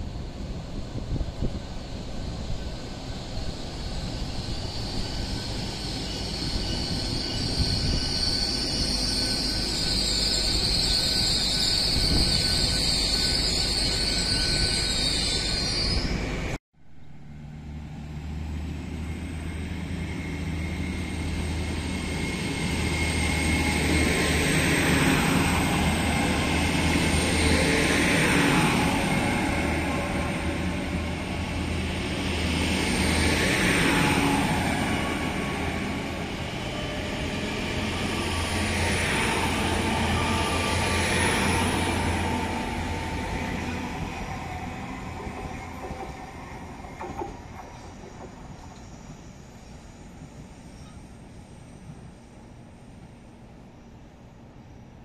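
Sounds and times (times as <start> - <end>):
train passing: 0.0 - 55.0
high wheel squeal: 2.6 - 16.6, 18.9 - 51.1.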